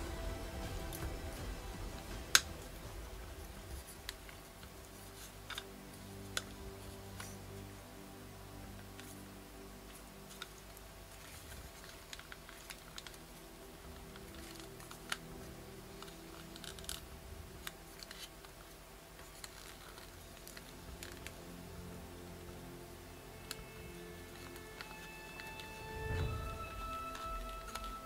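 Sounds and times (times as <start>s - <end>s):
soft background music: 0.0s - 28.0s.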